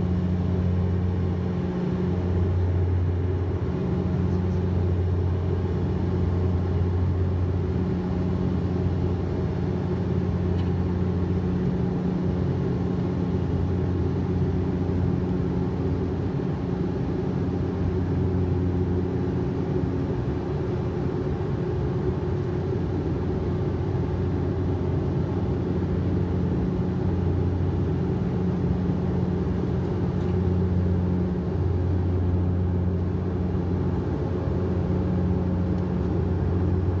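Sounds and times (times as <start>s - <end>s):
engine and air rumble: 0.0s - 37.0s
propeller hum: 0.0s - 37.0s.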